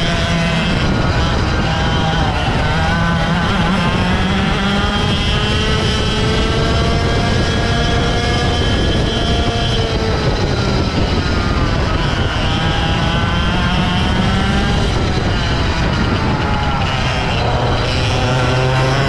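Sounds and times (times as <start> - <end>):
two-stroke kart engine revving: 0.0 - 19.0.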